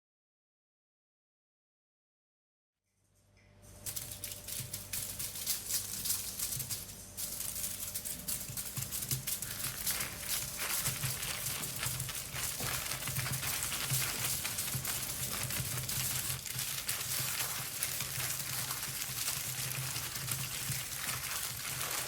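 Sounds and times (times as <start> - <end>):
fire crackling: 4.3 - 22.0.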